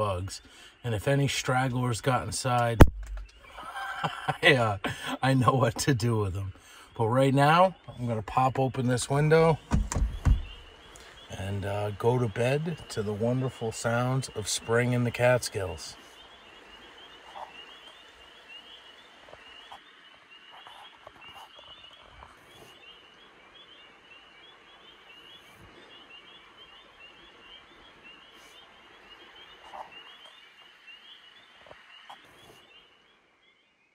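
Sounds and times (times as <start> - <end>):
frogs peeping: 0.0 - 33.9.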